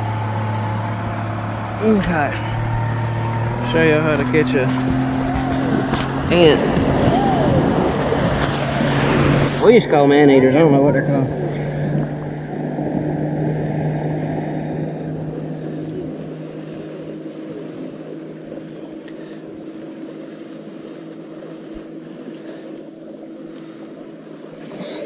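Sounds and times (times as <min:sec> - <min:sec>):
motorboat engine humming: 0:00.0 - 0:25.0.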